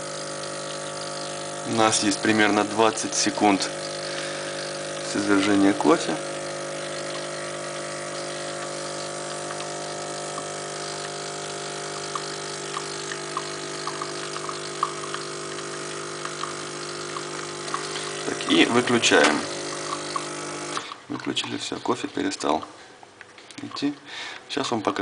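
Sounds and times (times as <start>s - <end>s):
espresso machine pump humming: 0.0s - 21.0s.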